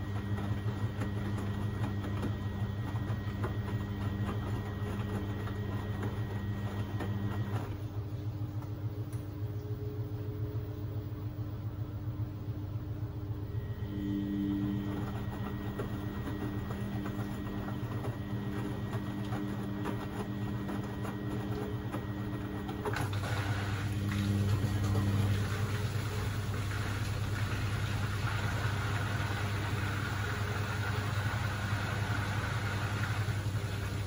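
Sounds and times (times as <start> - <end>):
washing machine motor hum: 0.0 - 34.0.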